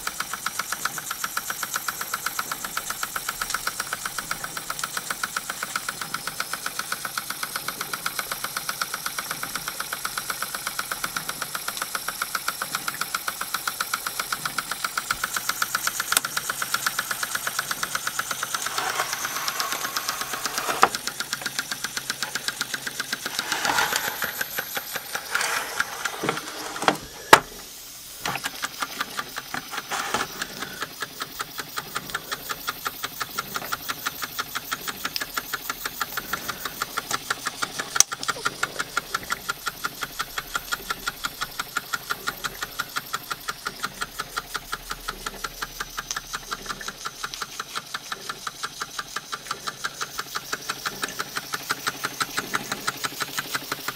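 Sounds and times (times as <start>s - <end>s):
toy steam engine puffing: 0.0s - 53.9s.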